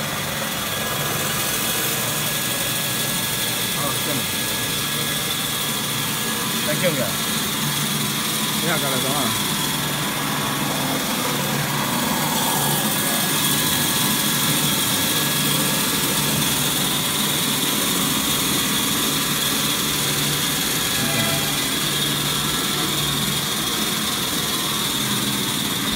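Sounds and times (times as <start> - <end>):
cutting machine whine and hum: 0.0 - 25.9.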